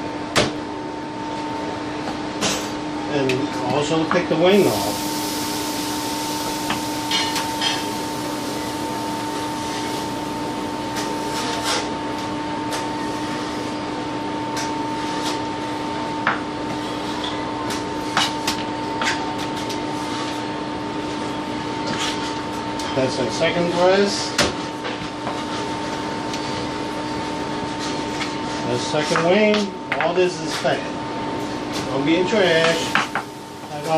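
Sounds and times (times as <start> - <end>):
steady hum: 0.0 - 33.9.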